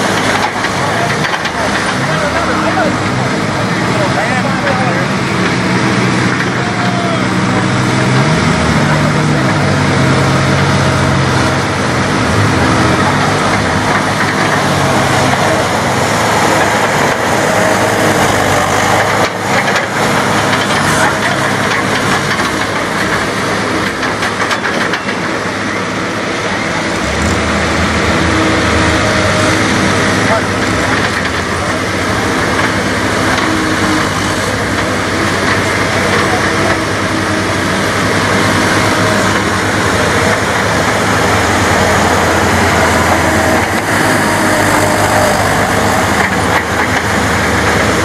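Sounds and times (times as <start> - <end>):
crowd noise: 0.0 - 48.0
diesel engine under load: 0.0 - 48.0.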